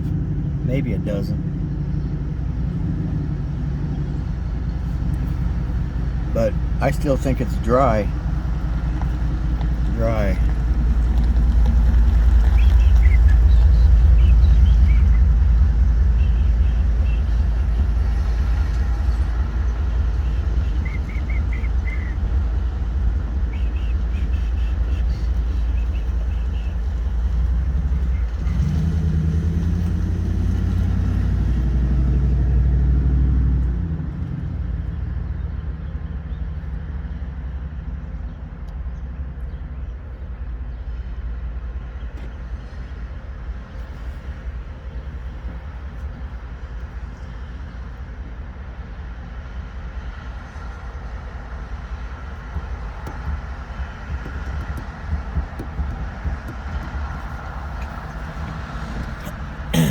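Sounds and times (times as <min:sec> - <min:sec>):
car engine running: 0:00.0 - 0:38.4, 0:41.8 - 0:59.9.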